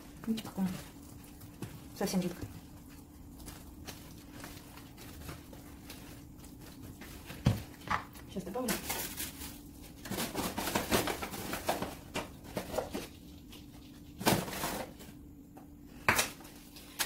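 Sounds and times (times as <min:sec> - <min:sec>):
flour sifter knocks and rustles: 0:00.0 - 0:15.2.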